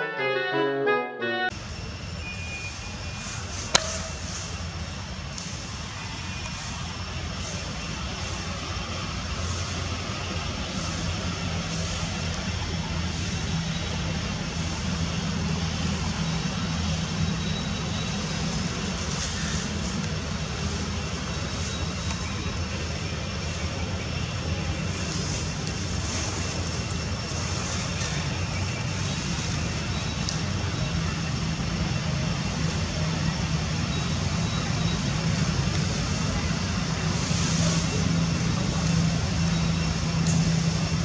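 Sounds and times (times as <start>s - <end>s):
even hiss: 1.6s - 41.0s.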